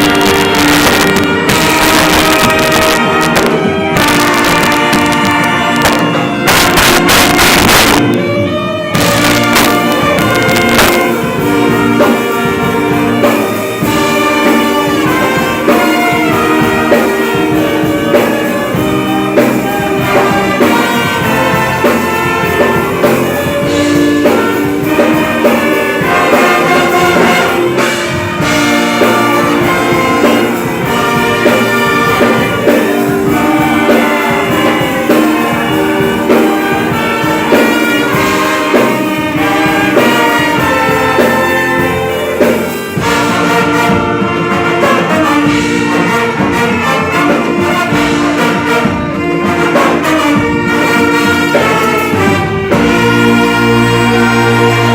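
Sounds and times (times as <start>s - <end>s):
orchestra playing: 0.0s - 54.9s.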